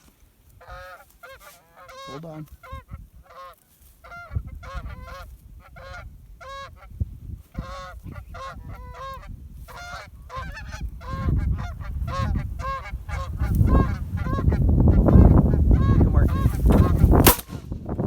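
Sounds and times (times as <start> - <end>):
geese honking: 0.5 - 17.4.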